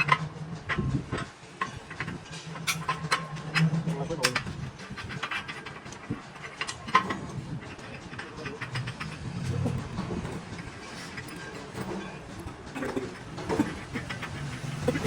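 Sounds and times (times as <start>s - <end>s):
mechanical clatter of knocks: 0.0s - 15.0s.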